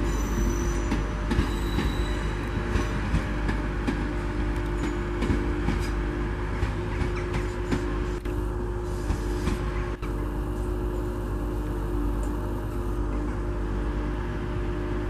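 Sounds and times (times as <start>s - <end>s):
diesel train engine hum: 0.0s - 15.0s
wheels rumbling on rails: 0.0s - 15.0s.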